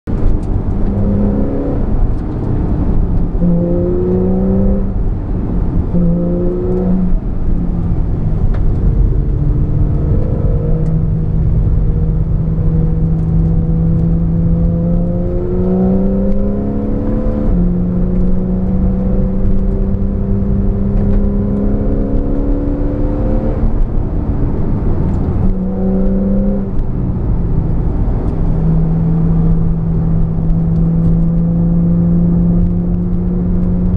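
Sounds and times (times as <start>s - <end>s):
car engine accelerating: 0.0s - 33.9s
road noise: 0.0s - 33.9s.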